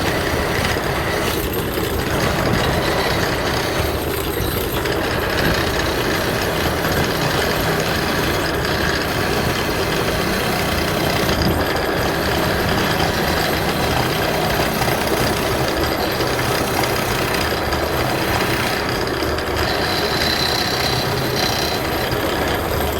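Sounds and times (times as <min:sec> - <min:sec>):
wood lathe running: 0:00.0 - 0:22.9.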